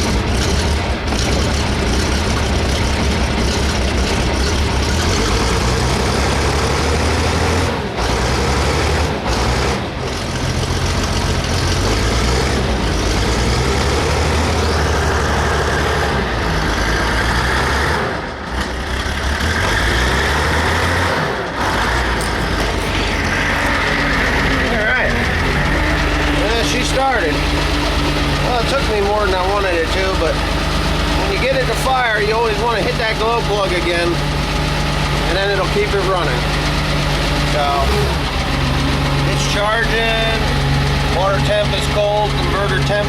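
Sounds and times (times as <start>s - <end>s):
diesel engine running unevenly: 0.0s - 43.0s.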